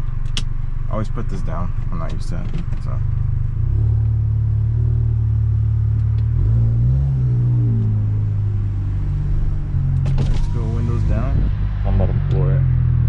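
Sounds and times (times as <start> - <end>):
car engine from inside cabin: 0.0 - 13.0.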